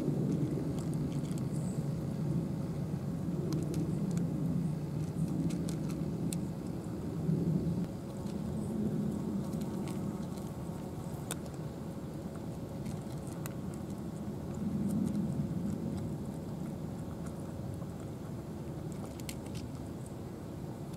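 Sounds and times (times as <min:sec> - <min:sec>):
cats chewing food: 0:00.0 - 0:06.9, 0:07.8 - 0:20.9.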